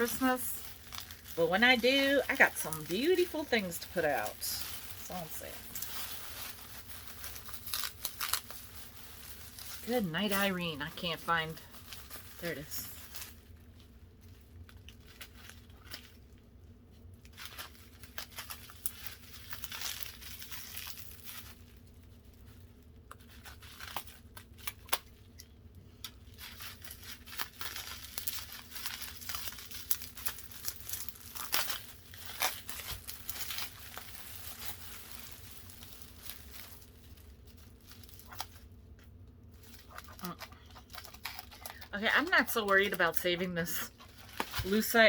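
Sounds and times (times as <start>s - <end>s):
packing wrap tearing and crinkling: 0.0s - 45.0s.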